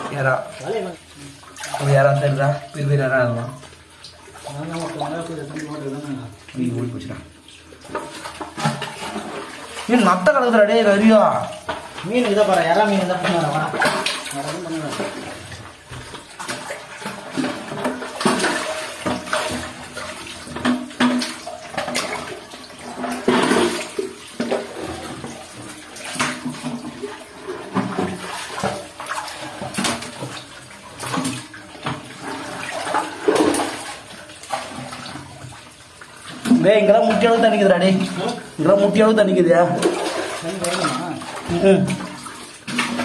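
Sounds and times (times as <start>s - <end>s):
muddy water splashing: 0.0s - 43.0s.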